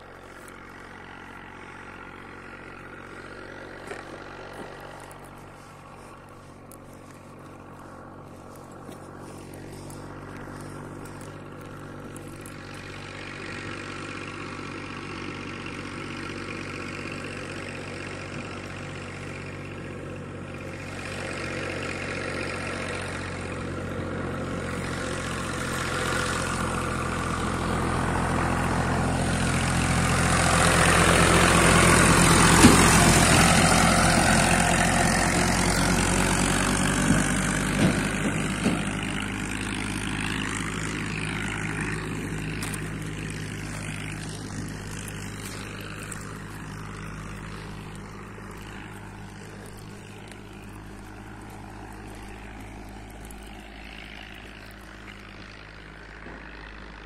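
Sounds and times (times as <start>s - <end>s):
heavy vehicle engine passing by: 0.0s - 57.0s.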